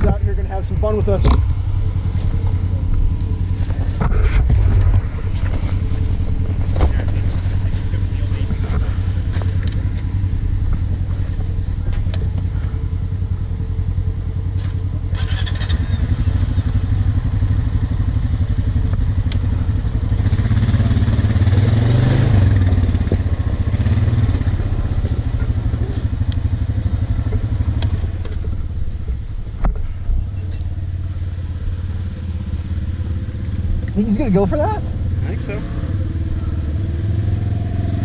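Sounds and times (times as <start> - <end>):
off-road vehicle engine running: 0.0 - 38.0.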